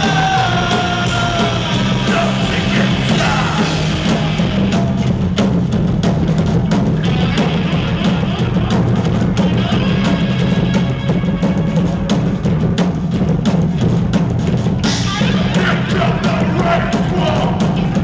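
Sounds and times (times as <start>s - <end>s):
fast drum kit hits: 0.0s - 18.0s
punk band playing live: 0.0s - 18.0s.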